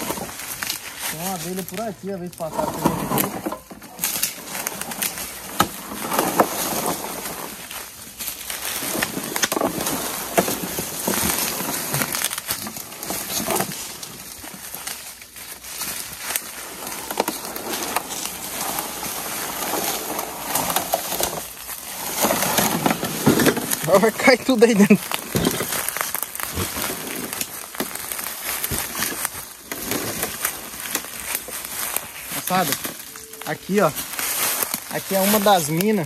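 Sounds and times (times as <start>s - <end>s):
footsteps crunching through dry leaves: 0.0s - 36.0s.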